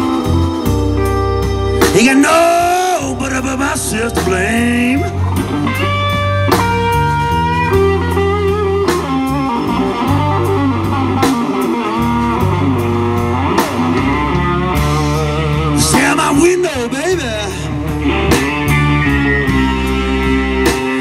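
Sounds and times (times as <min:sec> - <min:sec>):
bass guitar: 0:00.0 - 0:21.0
drum kit: 0:00.0 - 0:21.0
electric guitar lead line: 0:00.0 - 0:21.0.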